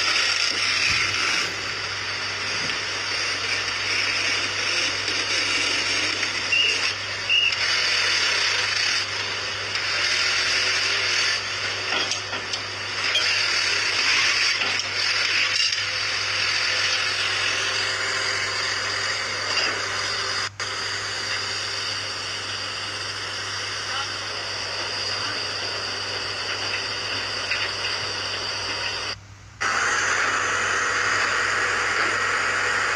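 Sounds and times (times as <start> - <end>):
hydraulic pile breaker hissing: 0.0 - 32.9.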